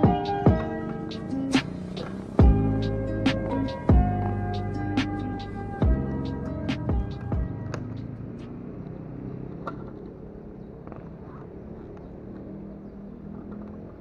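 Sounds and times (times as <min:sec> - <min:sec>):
road and vehicle noise: 0:00.0 - 0:14.0.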